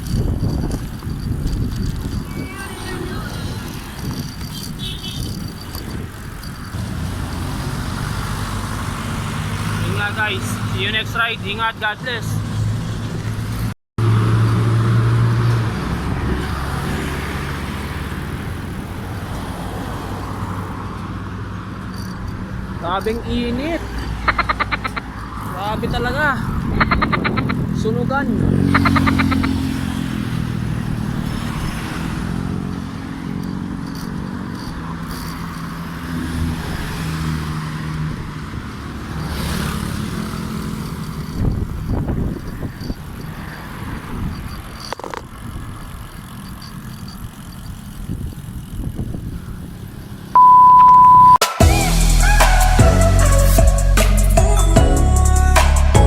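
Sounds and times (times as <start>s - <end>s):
nearby vehicle engine hum: 0.0s - 51.4s
steady traffic and road noise: 0.0s - 56.0s.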